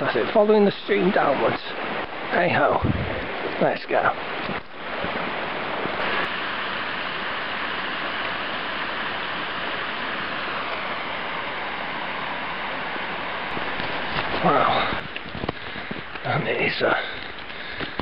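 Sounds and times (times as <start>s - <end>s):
brook water rushing: 0.0s - 18.0s.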